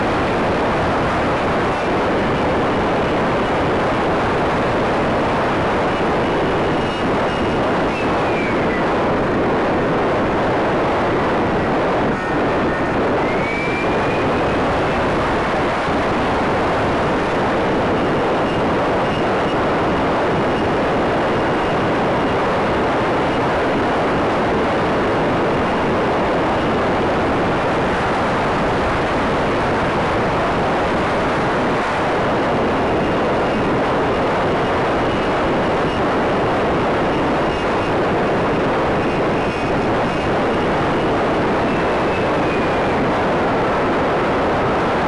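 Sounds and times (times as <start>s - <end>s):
wind and propeller noise: 0.0s - 45.0s.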